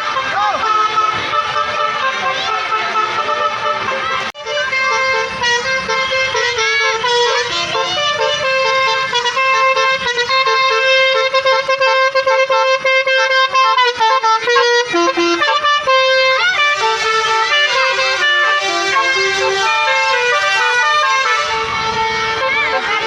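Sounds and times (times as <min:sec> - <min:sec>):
bus horn playing a tune: 0:00.0 - 0:23.0.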